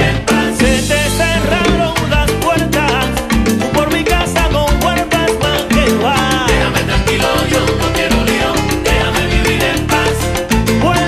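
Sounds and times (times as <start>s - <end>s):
salsa band playing: 0.0s - 11.0s.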